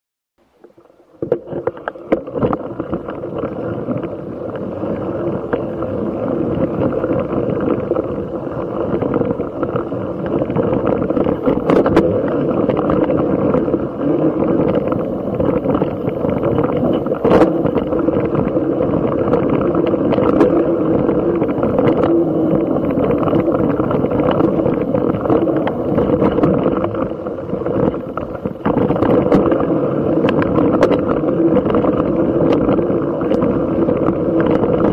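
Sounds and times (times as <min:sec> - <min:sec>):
bike rumbling and rattling: 0:01.2 - 0:34.9
wind buffeting microphone: 0:02.0 - 0:34.9.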